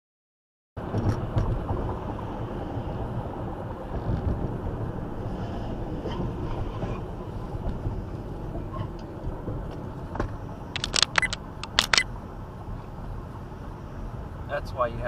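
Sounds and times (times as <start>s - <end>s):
car road and engine noise: 0.8s - 15.0s.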